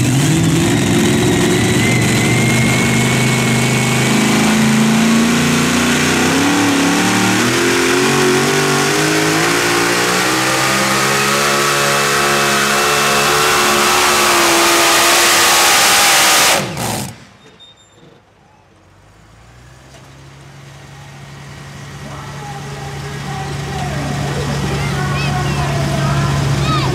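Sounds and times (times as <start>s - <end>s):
engine running at high revs: 0.0s - 17.2s, 22.0s - 26.9s.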